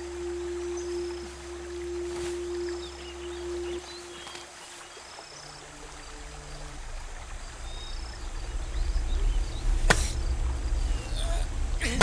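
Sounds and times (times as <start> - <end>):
faint hiss: 0.0 - 12.0
low drone: 0.0 - 12.0.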